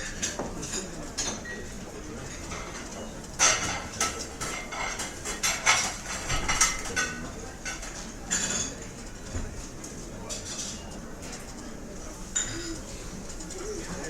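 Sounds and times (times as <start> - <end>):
dishes and cutlery clattering: 0.0 - 14.0.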